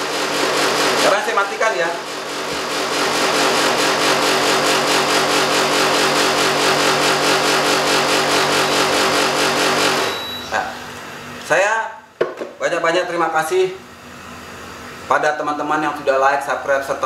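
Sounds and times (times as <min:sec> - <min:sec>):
air conditioner compressor humming: 0:00.0 - 0:17.0.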